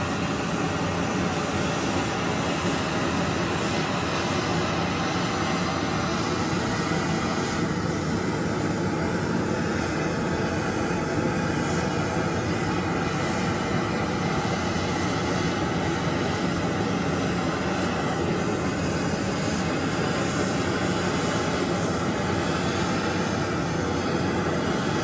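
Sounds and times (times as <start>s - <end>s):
propane torch hissing: 0.0s - 25.0s.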